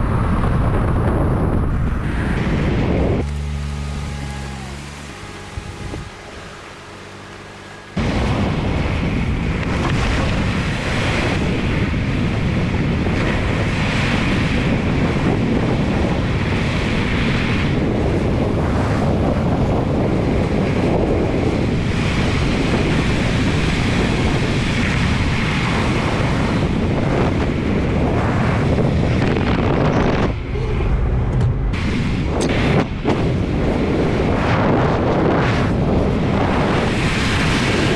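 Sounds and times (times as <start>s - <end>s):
wind rushing on microphone: 0.0s - 7.0s, 8.0s - 37.9s
road noise: 0.0s - 37.9s.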